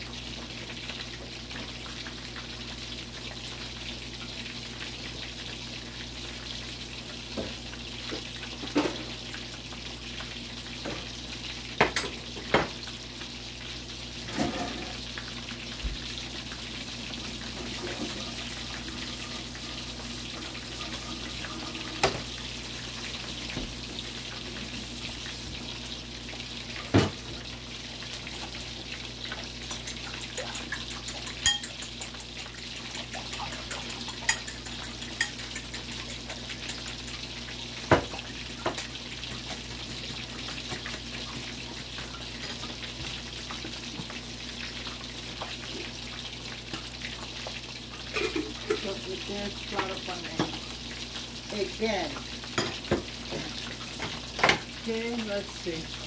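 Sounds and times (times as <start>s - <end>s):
chicken frying in hot oil: 0.0s - 56.0s.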